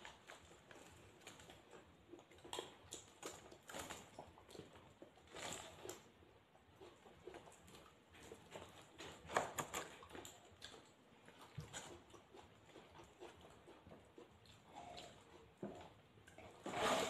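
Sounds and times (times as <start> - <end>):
flatbread tearing clicks and rustles: 0.0 - 16.9
person chewing food: 0.0 - 17.0.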